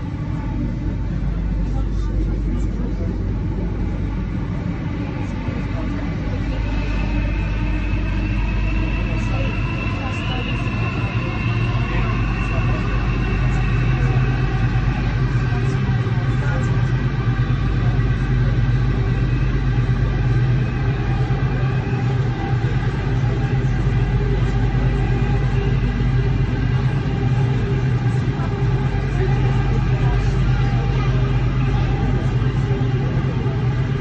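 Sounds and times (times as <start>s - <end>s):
electric train rumbling in tunnel: 0.0s - 34.0s
faint whining tones: 0.0s - 34.0s.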